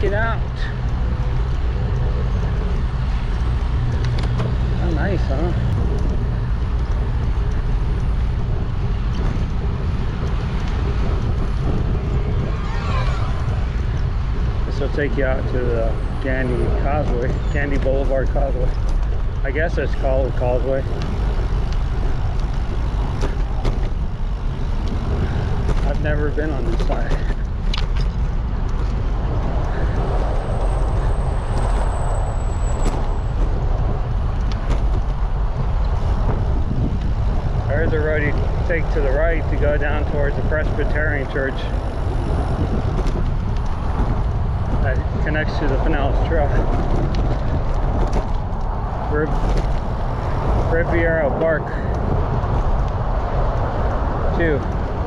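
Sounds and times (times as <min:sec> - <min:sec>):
road noise: 0:00.0 - 0:55.0
wind rushing over microphone: 0:00.0 - 0:55.0.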